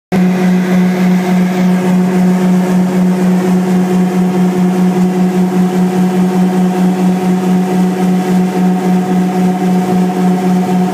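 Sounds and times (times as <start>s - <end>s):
harvester machine drone: 0.1s - 10.9s.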